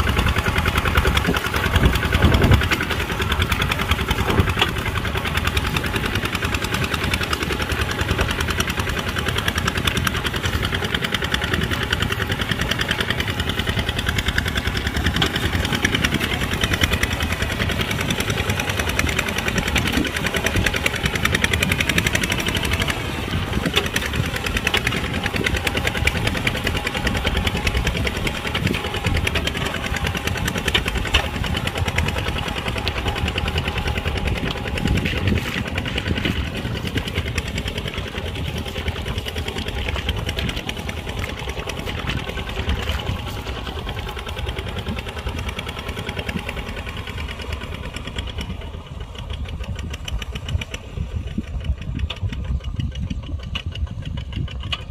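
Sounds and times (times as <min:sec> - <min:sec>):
diesel engine knocking steadily: 0:00.0 - 0:54.9.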